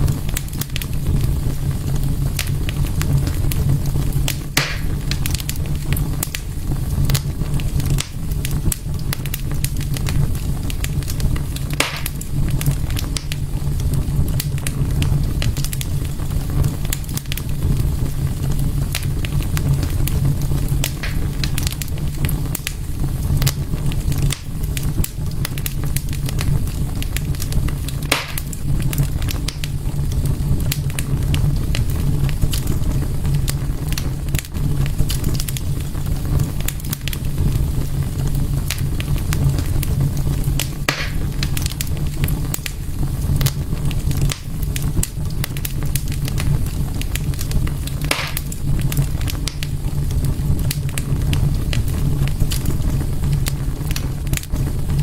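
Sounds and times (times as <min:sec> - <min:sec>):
fire crackling in fireplace: 0:00.0 - 0:55.0
fire popping: 0:00.0 - 0:55.0.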